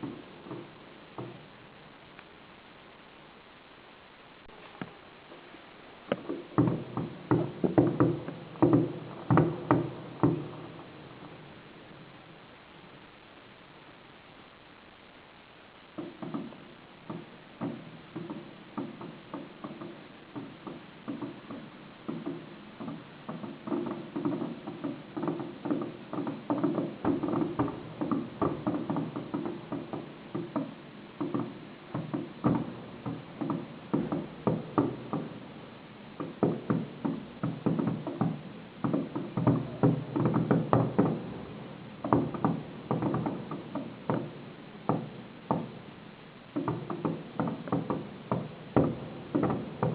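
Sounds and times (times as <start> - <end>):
firework bangs: 4.4 - 49.9.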